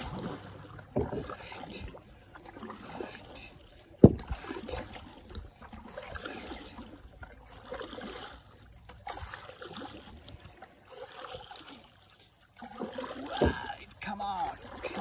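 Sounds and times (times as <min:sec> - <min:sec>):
paddle pulled through water: 0:00.0 - 0:15.0
water trickling and splashing: 0:00.0 - 0:15.0.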